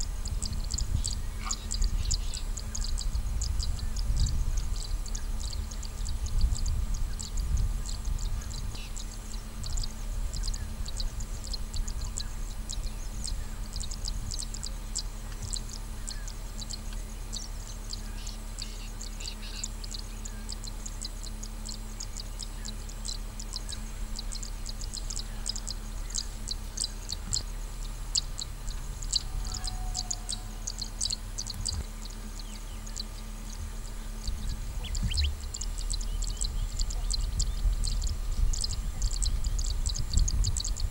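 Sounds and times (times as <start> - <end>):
high-pitched chirps chorus: 0.0 - 40.9
steady low rumble: 0.0 - 40.9.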